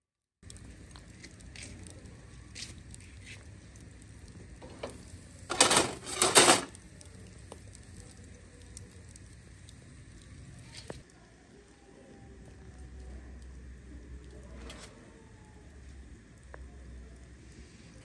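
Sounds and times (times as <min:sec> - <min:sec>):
meat sizzling over charcoal: 0:00.4 - 0:18.0.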